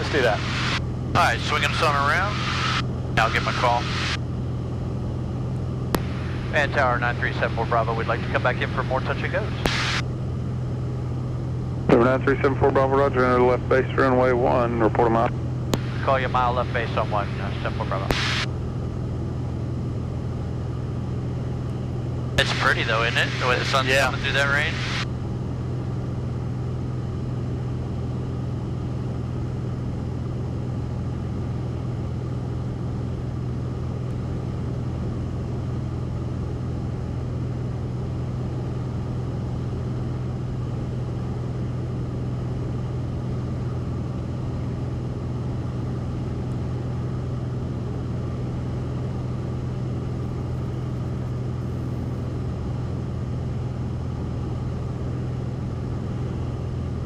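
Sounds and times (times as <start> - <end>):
aircraft engine droning in cockpit: 0.0 - 57.0.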